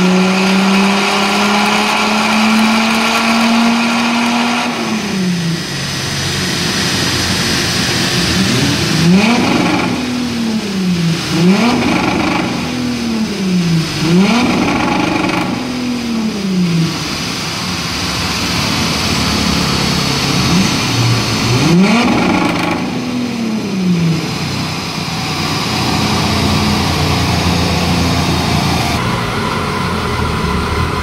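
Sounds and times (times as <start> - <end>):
diesel car engine revving: 0.0 - 31.0
car engine idling: 1.5 - 31.0.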